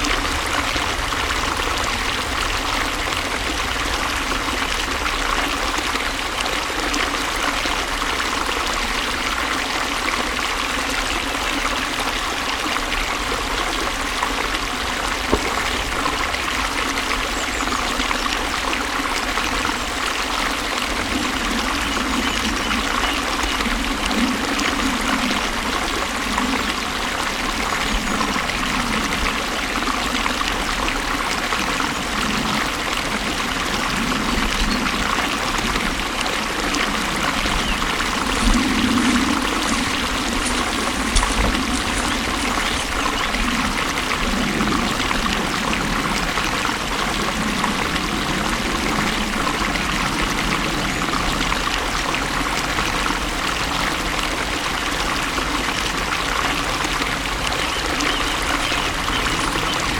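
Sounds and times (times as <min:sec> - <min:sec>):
water gurgling: 0:00.0 - 0:59.9
water splashes: 0:00.0 - 0:59.9.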